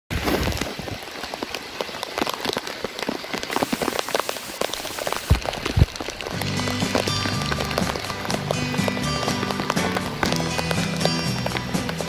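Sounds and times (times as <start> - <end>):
heavy rain falling: 0.1 - 12.0.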